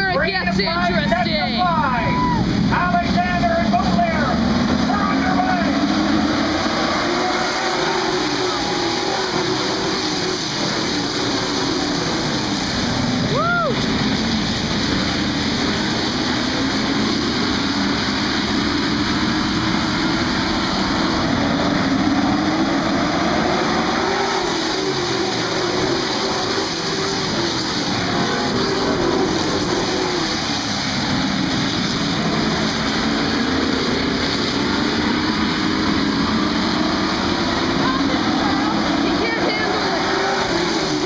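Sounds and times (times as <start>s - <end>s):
stock car engines racing: 0.0s - 41.0s.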